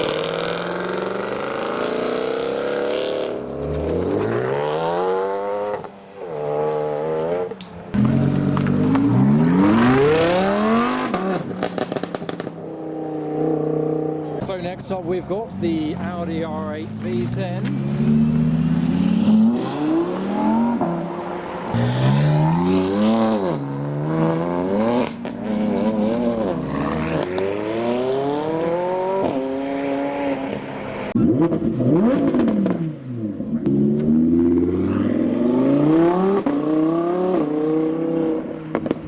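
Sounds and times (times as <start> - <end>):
car engine revving and accelerating: 0.0 - 39.0.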